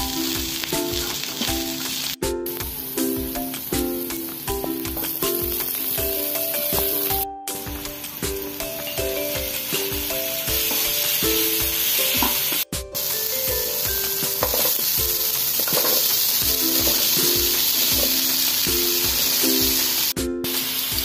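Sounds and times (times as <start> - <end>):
background music with steady beat: 0.0 - 21.0
food sizzling in oil: 0.0 - 21.0.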